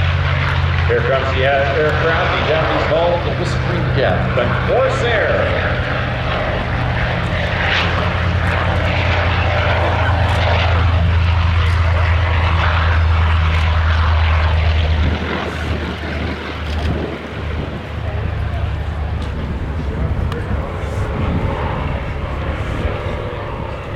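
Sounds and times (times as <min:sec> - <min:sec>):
aircraft radial engine flyby: 0:00.0 - 0:23.9.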